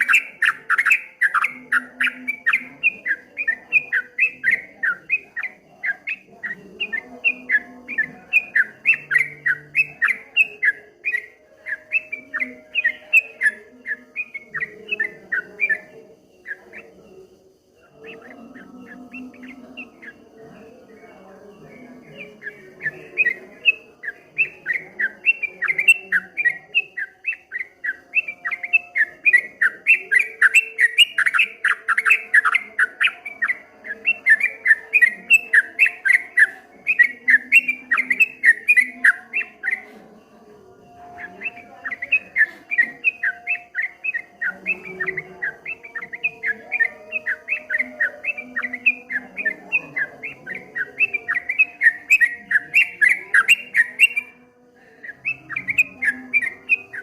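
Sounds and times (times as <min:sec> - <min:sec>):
bulbul singing chirping notes: 0:00.0 - 0:57.0.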